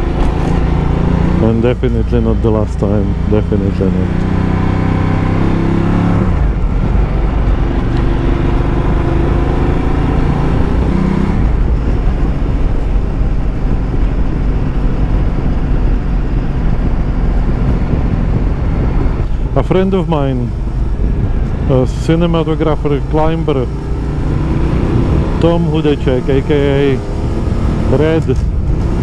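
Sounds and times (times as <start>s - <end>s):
motorcycle engine running: 0.0s - 29.0s
wind and road noise: 0.0s - 29.0s.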